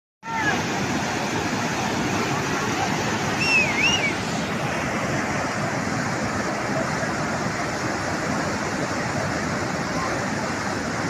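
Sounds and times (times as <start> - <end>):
water rushing down a gully: 0.2 - 11.0.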